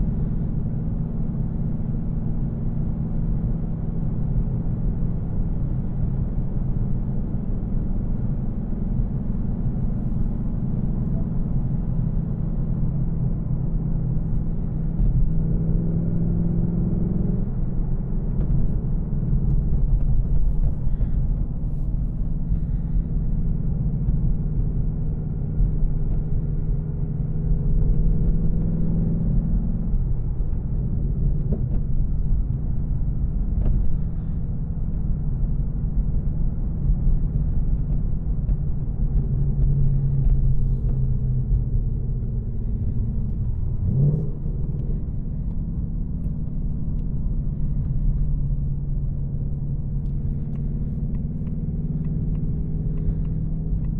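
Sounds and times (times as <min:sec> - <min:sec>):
car engine deep rumble: 0:00.0 - 0:53.9
road noise: 0:00.0 - 0:53.9.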